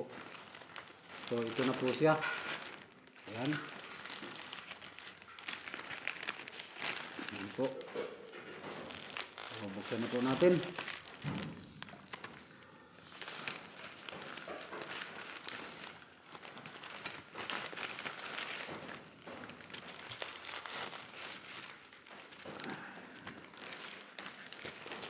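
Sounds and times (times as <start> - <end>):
fabric bag rustling: 0.0 - 25.0.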